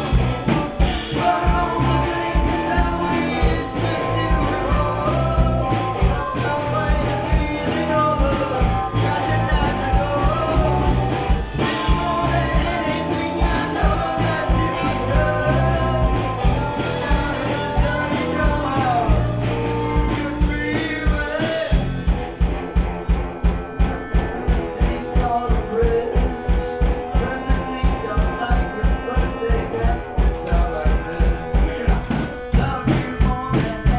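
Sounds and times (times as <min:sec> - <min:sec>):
person singing: 0:00.0 - 0:22.0, 0:23.0 - 0:33.9
accordion: 0:00.0 - 0:33.9
rock band playing live: 0:00.0 - 0:33.9
steady drum beat: 0:00.0 - 0:33.9.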